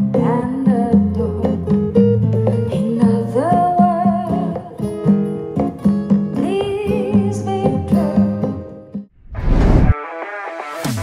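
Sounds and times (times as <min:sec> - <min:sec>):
plucked acoustic guitar: 0:00.0 - 0:09.0.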